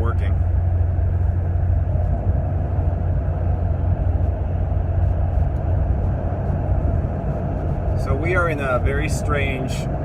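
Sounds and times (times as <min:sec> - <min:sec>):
car cabin road noise: 0:00.0 - 0:10.0.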